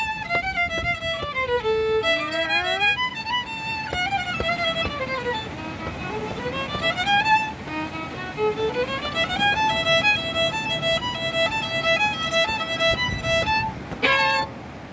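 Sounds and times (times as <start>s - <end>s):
solo violin melody: 0.0s - 14.9s.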